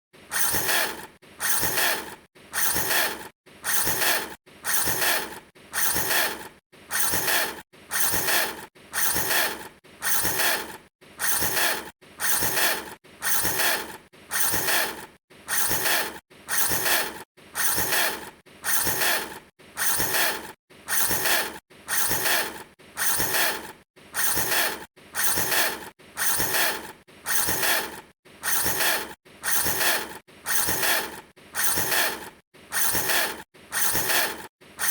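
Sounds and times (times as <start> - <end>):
repeated short mechanical noise: 0.2 - 34.9.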